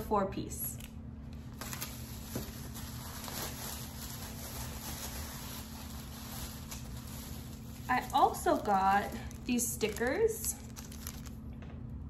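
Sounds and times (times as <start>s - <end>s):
steady low hum: 0.0s - 12.0s
packaged items rustling: 1.3s - 11.5s.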